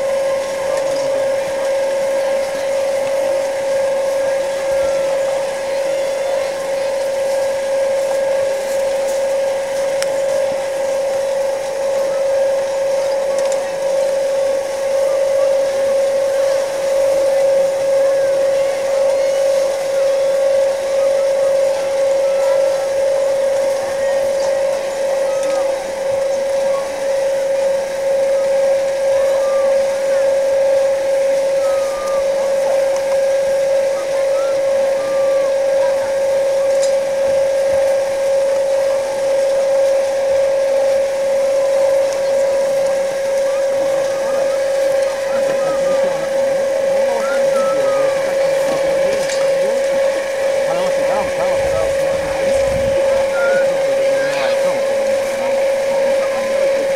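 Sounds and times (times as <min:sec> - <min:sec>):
faint voices: 0:00.0 - 0:56.9
loud steady hum: 0:00.0 - 0:56.9
people talking in background: 0:00.0 - 0:56.9.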